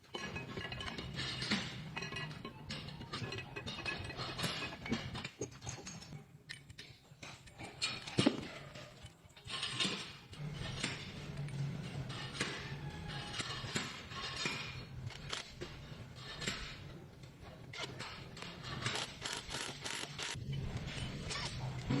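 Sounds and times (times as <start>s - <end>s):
metallic clinks and knocks: 0.0s - 22.0s.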